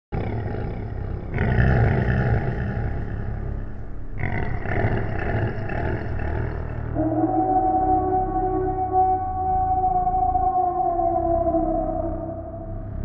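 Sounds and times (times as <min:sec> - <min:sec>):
deep rough monster growling: 0:00.1 - 0:13.0.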